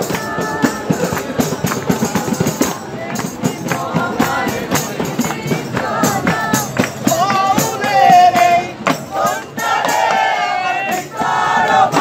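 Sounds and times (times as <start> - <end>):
group singing: 0.0 - 12.0
hand percussion beat: 0.0 - 12.0.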